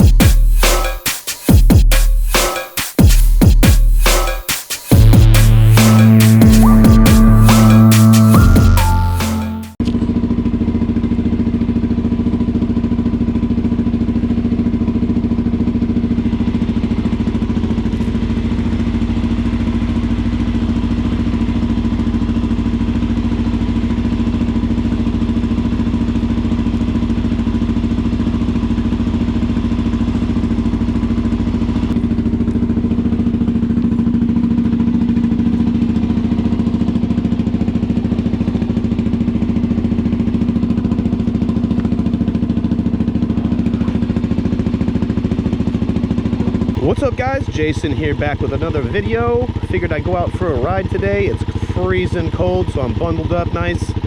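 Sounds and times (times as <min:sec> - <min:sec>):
motorcycle engine idling: 0:10.0 - 0:54.0.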